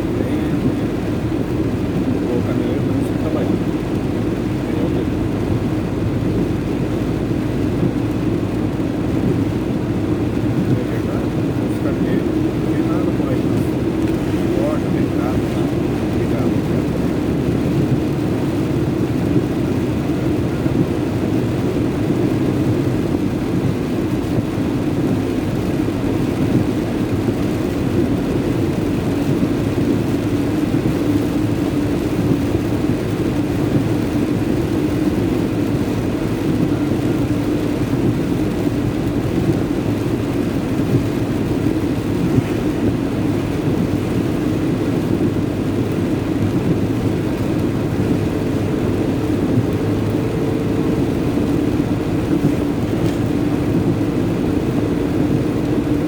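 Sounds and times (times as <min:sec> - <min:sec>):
rain: 0:00.0 - 0:56.0
tyre and road noise: 0:00.0 - 0:56.0
vehicle engine drone: 0:00.0 - 0:56.0.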